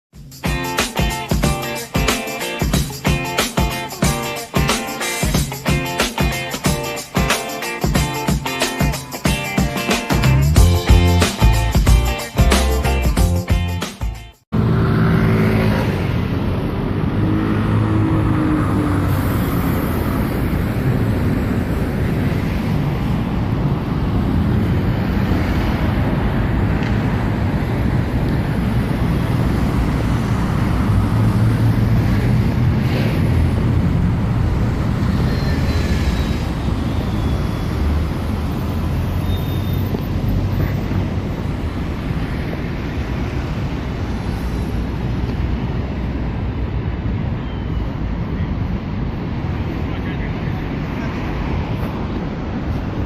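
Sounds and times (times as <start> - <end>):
busy road traffic rumble: 0.2 - 53.0.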